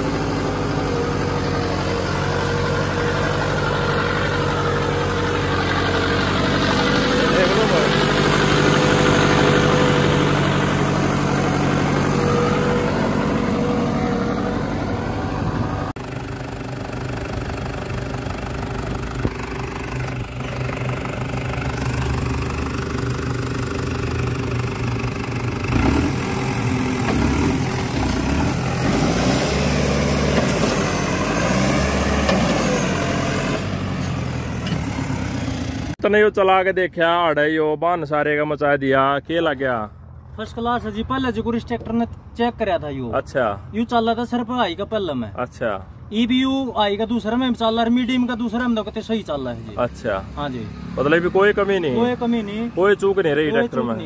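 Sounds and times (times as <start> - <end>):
tractor diesel engine running: 0.0 - 37.4, 39.3 - 54.0.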